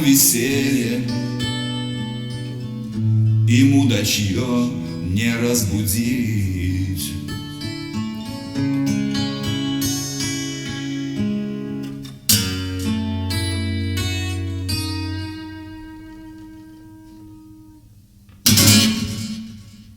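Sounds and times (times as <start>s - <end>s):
acoustic guitar chords: 0.0s - 19.9s.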